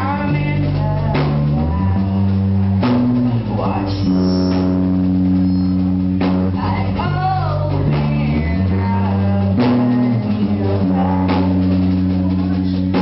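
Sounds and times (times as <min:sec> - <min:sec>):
person singing: 0:00.0 - 0:04.8, 0:06.4 - 0:13.0
bass guitar: 0:00.0 - 0:13.0
drum kit: 0:00.0 - 0:13.0.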